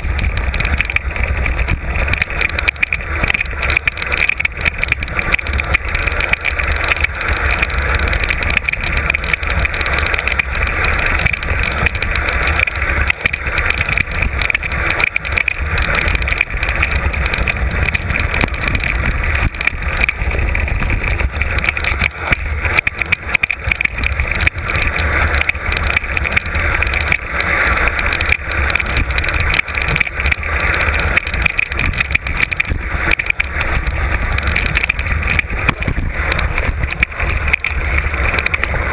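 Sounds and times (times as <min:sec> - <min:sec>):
bike rattling and knocking: 0:00.0 - 0:38.9
wind buffeting microphone: 0:00.0 - 0:38.9.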